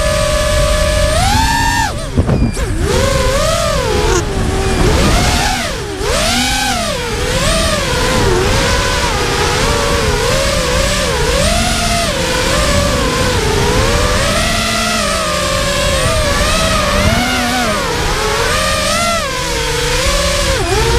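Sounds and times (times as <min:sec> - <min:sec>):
quadcopter motors whining: 0:00.0 - 0:20.9.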